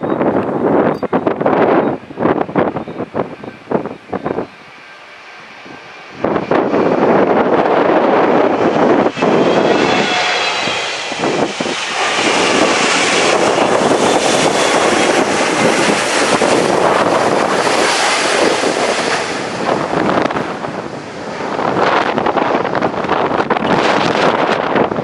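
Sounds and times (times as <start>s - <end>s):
falling engine whine: 0.0s - 25.0s
jet airliner engines: 0.0s - 25.0s
wind buffeting microphone: 0.0s - 25.0s.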